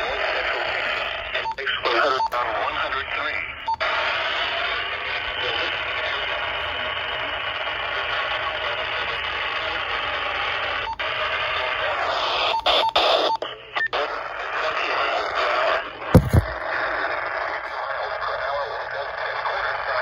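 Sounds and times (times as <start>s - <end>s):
voice over radio speaker: 0.0s - 10.2s, 11.0s - 20.0s
radio hiss and static: 0.0s - 20.0s.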